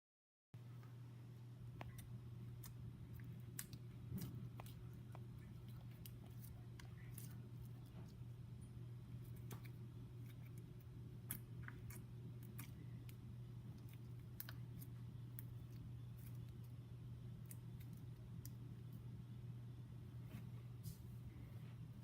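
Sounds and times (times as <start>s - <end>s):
steady low hum: 0.6s - 22.0s.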